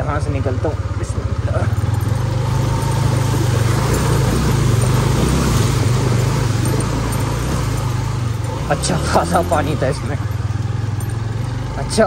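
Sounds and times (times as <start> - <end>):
motorcycle engine running: 0.0 - 12.0
water rushing: 1.8 - 12.0.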